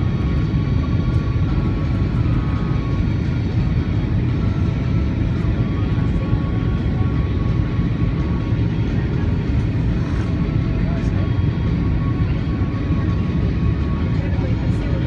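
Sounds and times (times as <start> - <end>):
airplane cabin rumble: 0.0 - 15.0
faint whining tones: 0.0 - 15.0.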